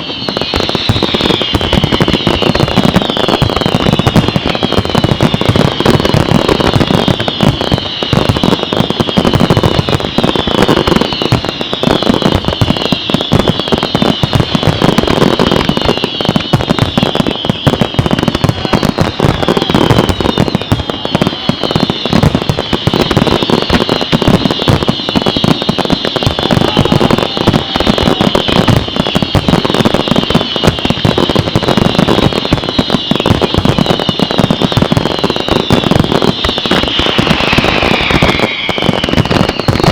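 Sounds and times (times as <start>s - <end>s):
fireworks bangs and crackling: 0.0s - 39.9s
fireworks whistles sliding down: 0.0s - 39.9s.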